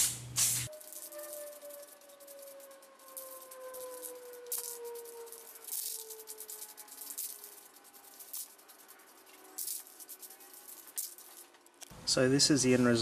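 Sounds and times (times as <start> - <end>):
spray paint can hissing: 0.0 - 11.5.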